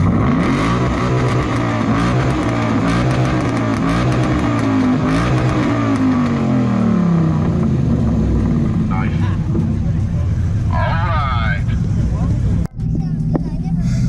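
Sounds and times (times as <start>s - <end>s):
car engine revving loud exhaust: 0.0s - 12.9s.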